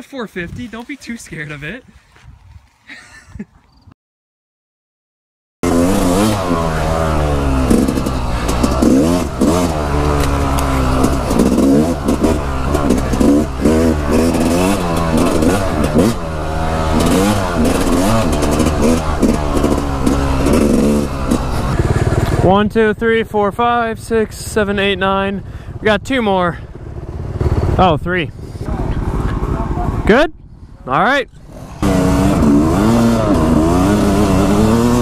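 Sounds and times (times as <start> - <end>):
dirt bike engines revving: 5.6 - 35.0.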